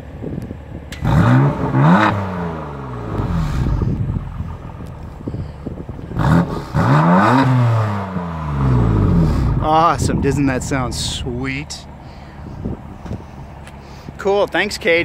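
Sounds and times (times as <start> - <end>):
car engine revving: 0.9 - 14.8.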